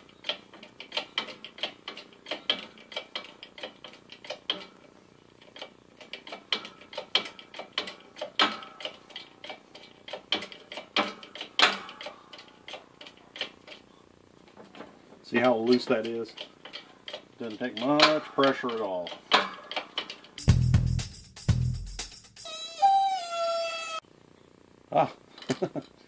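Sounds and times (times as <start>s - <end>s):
rapid light metallic clicking: 0.0s - 22.4s.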